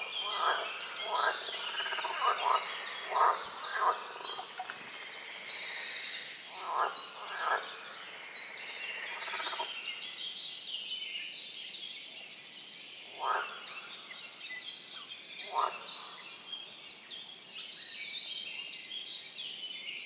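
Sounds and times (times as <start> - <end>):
songbirds singing with trills: 0.0 - 20.0.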